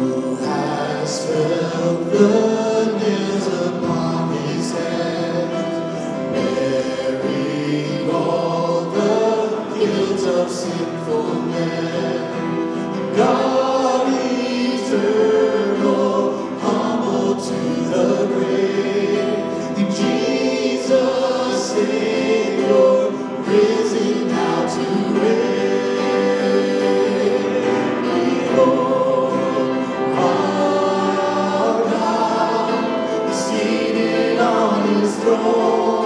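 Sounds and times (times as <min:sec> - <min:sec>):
acoustic guitar: 0:00.0 - 0:36.0
group singing a hymn: 0:00.0 - 0:36.0
piano: 0:00.0 - 0:36.0.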